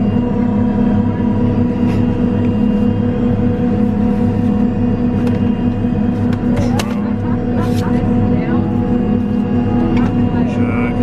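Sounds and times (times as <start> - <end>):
jet cabin drone: 0.0 - 11.0.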